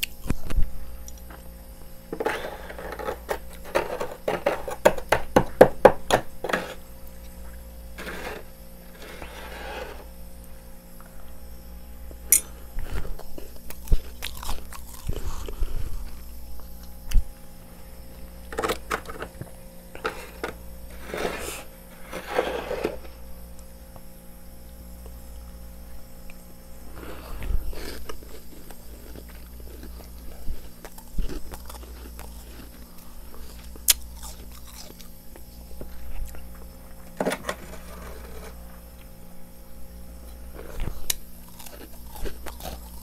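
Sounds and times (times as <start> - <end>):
person crunching frost: 0.0 - 5.2, 6.1 - 11.2, 12.1 - 23.2, 26.3 - 39.2, 40.1 - 43.0.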